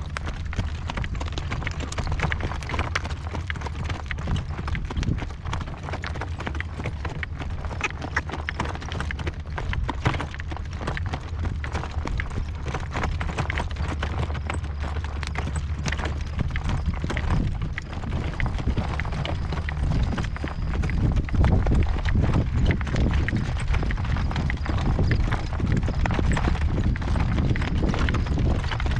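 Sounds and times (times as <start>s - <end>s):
horse hooves clip-clopping: 0.0s - 28.9s
wind rumbling on microphone: 0.0s - 28.9s.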